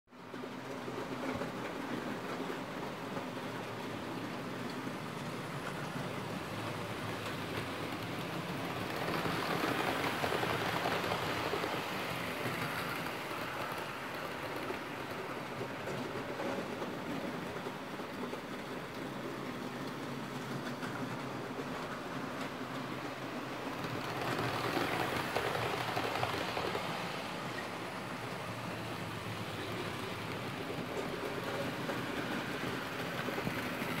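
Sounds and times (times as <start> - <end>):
model train wheels rattling on rails: 0.4 - 34.0.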